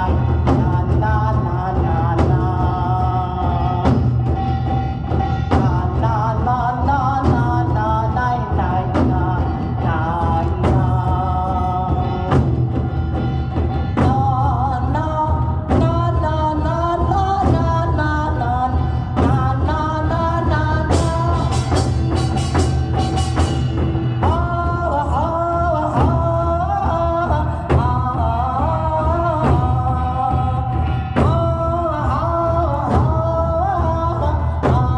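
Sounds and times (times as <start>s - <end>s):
backing track with melody and bass: 0.0s - 34.9s.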